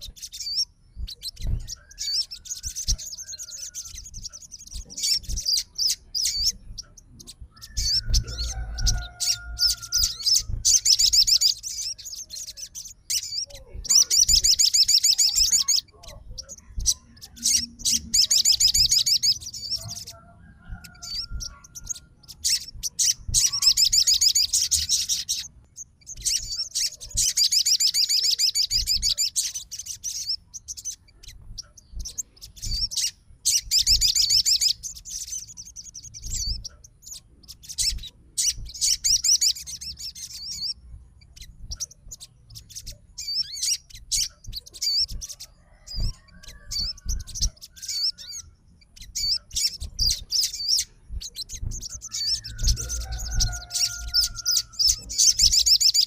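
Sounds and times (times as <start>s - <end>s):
songbird trilled chirping: 0.0s - 56.0s.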